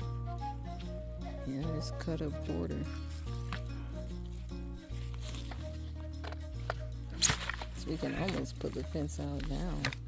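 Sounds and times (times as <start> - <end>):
background music with bass and chords: 0.0 - 10.0.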